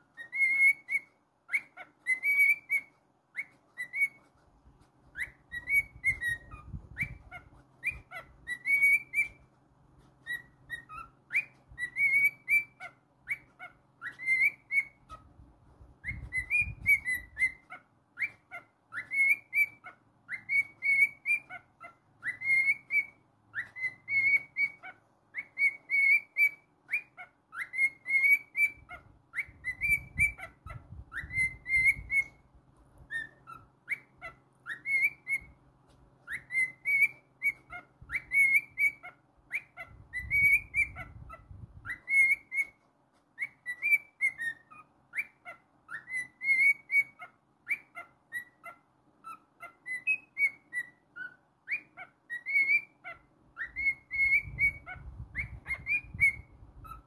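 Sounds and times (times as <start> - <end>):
cockatiel whistling: 0.0 - 57.0.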